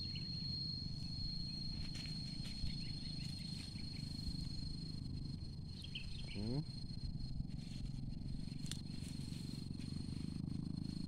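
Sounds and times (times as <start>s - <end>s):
faint chirps: 0.0s - 11.0s
insect high-pitched drone: 0.0s - 11.0s
low steady rumble: 0.0s - 11.0s.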